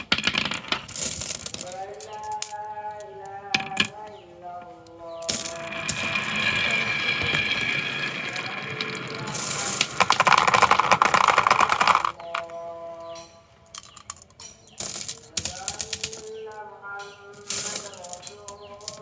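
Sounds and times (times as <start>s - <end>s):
marbles rolling down wooden track: 0.0s - 4.0s, 5.2s - 13.0s, 13.7s - 16.6s, 17.3s - 19.0s.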